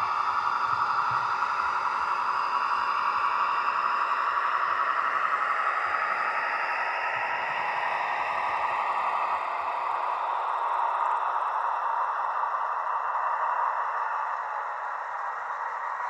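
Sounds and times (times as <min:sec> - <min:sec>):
model train engine sound from speaker: 0:00.0 - 0:16.0.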